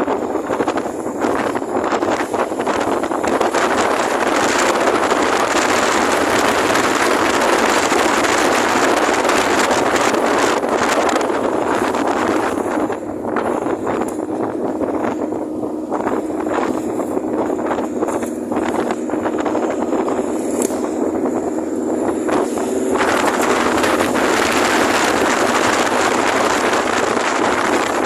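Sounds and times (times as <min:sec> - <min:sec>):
scooter engine running: 0:00.0 - 0:28.0
wind buffeting microphone: 0:00.0 - 0:28.0.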